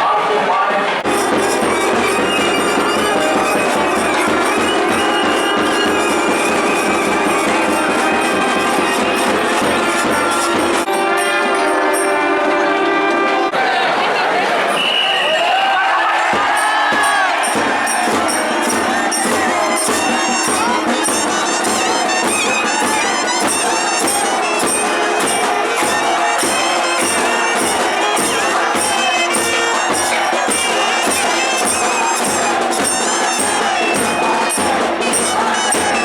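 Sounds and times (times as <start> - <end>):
faint crowd noise: 0.0 - 36.0
drum beat: 1.0 - 12.3, 16.2 - 36.0
double-reed pipe melody: 1.1 - 13.5, 16.4 - 36.0.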